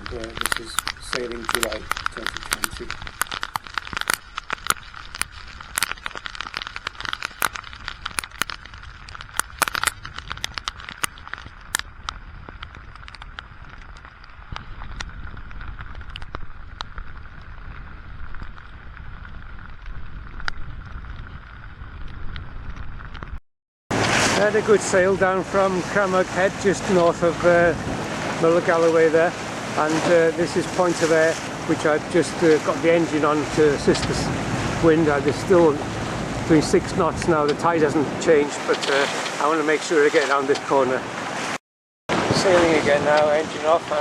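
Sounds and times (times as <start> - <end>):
rain hiss: 0.0 - 20.5, 23.9 - 41.3, 42.2 - 44.0
low wind rumble: 0.0 - 44.0
raindrops hitting microphone: 0.0 - 44.0.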